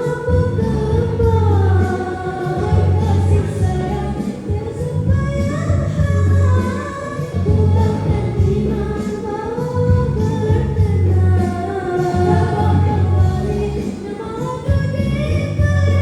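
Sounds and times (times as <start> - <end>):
backing music with pulsing bass: 0.0 - 16.0
girls singing pop duet: 0.0 - 16.0.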